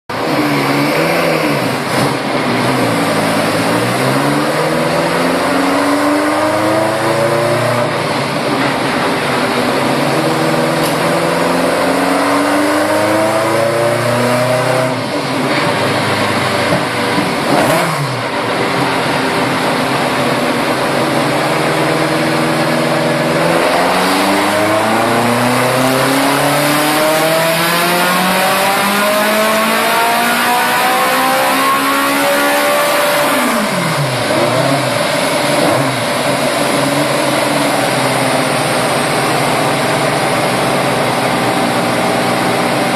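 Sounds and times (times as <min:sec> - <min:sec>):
engine revving on dyno: 0:00.1 - 0:42.9.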